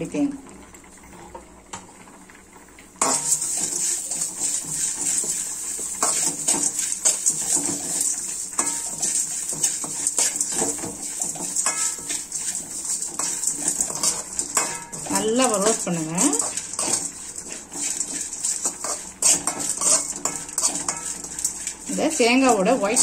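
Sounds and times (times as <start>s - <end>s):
spoon scraping a pan: 3.0s - 23.0s.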